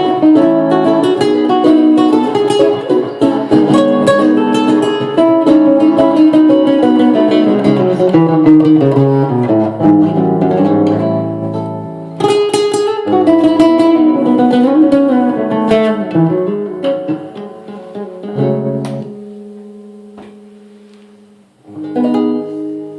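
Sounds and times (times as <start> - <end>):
guitar chord ringing: 0.0 - 22.9
solo guitar melodic runs: 0.0 - 22.9.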